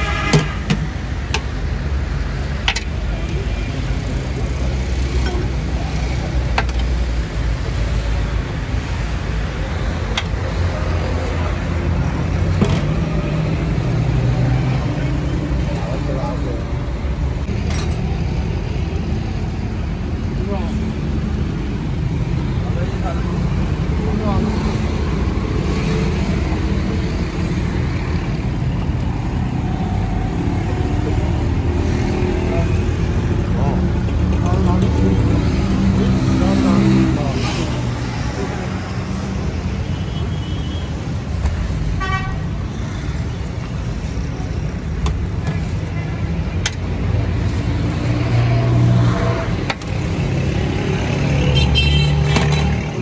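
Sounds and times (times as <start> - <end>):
low rumble of street traffic: 0.0 - 53.0.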